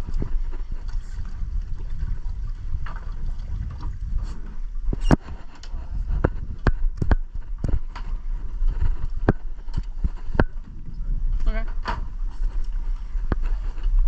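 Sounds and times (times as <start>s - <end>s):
knocks and thumps in a boat: 0.0s - 14.0s
wind on microphone: 0.0s - 14.0s.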